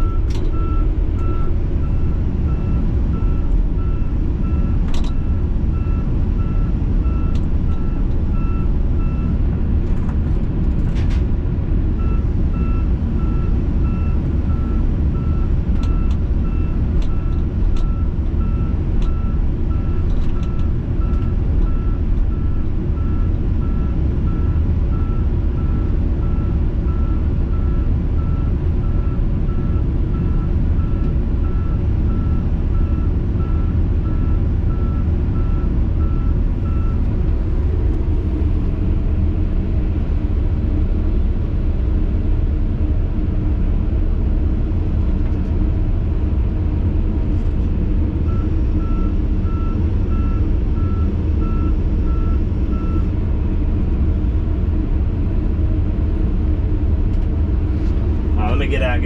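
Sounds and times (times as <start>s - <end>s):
diesel truck engine rumble: 0.0s - 59.0s.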